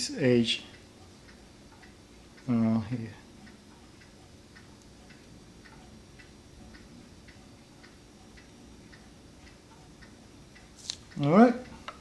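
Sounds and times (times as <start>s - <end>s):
clock ticking: 0.7s - 12.0s.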